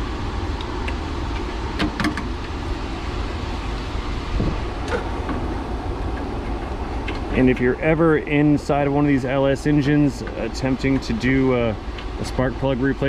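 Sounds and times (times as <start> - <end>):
workshop rumble: 0.0 - 13.0.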